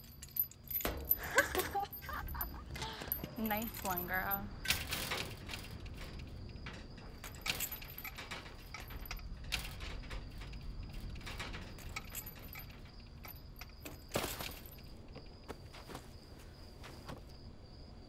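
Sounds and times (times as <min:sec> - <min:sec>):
chain-link fence rattling: 0:00.0 - 0:17.2
crickets chirring: 0:00.0 - 0:18.0.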